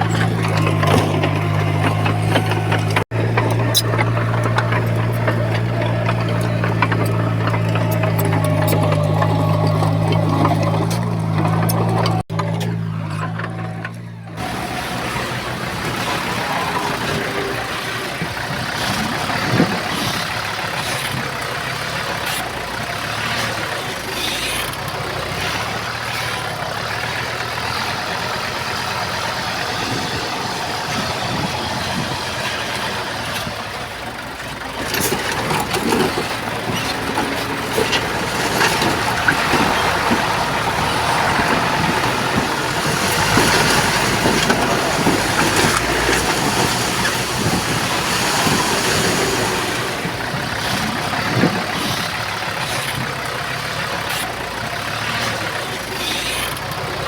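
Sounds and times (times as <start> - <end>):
knocks and clanks: 0.0 - 54.4
diesel machinery running: 0.0 - 57.0.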